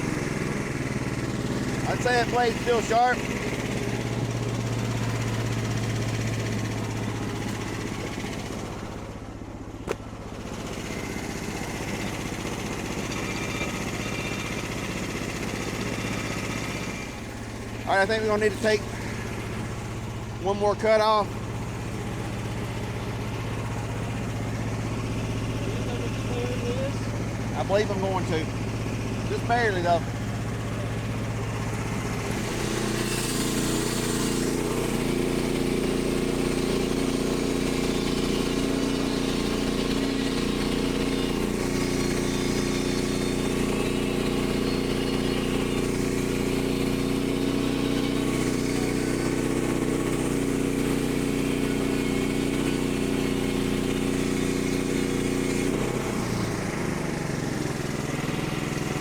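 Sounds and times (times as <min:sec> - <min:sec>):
band saw blade cutting log: 0:00.0 - 0:09.1, 0:09.9 - 0:59.0
gas engine running: 0:00.0 - 0:59.0.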